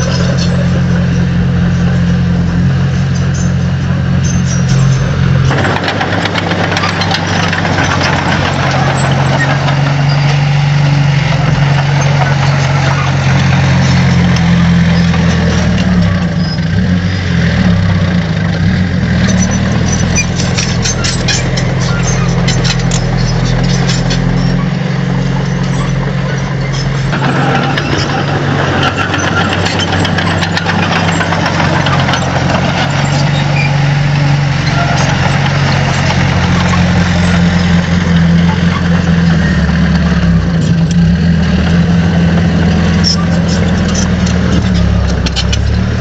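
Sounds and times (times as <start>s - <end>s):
diesel engine running under load: 0.0s - 46.0s.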